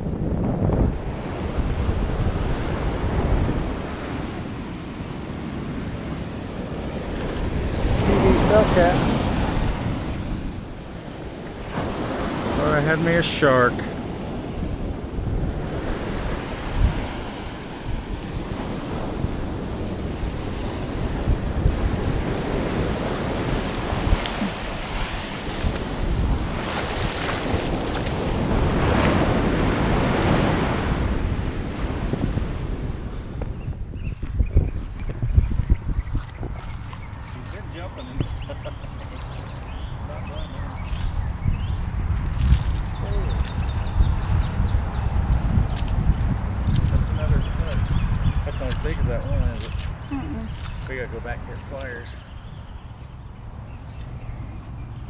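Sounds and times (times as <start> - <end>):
surf breaking on a beach: 0.0 - 52.3
wind buffeting the microphone: 0.0 - 55.0.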